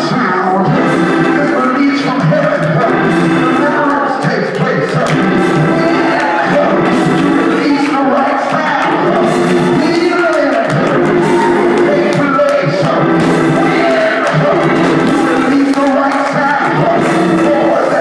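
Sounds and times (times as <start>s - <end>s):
crowd shouting and singing: 0.0s - 18.0s
loud music: 0.0s - 18.0s.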